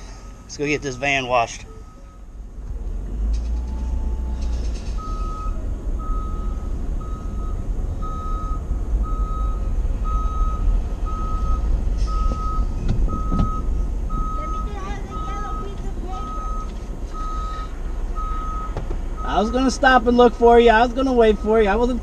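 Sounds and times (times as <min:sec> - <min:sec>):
vehicle backup alarm beeping: 0:00.0 - 0:02.5, 0:03.5 - 0:22.0
low van engine rumble: 0:00.0 - 0:22.0.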